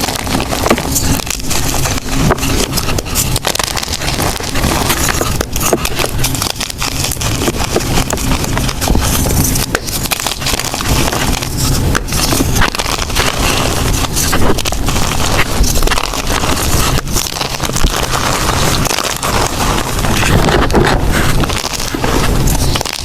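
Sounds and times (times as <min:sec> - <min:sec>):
chalk being crushed by hand: 0:00.0 - 0:23.0.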